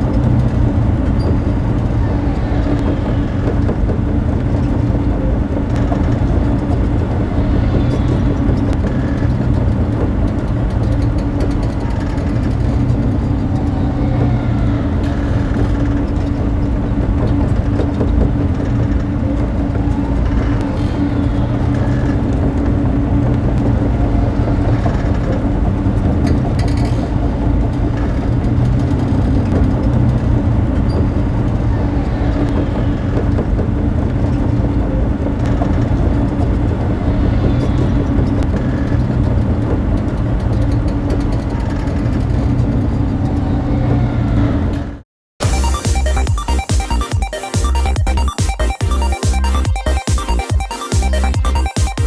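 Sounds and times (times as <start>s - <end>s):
low engine drone: 0.0s - 52.0s.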